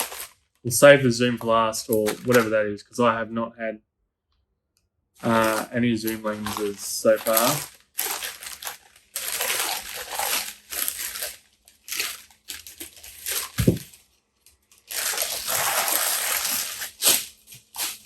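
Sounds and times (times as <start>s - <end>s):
wrapping rustling and crinkling: 0.0s - 2.6s, 5.2s - 18.0s.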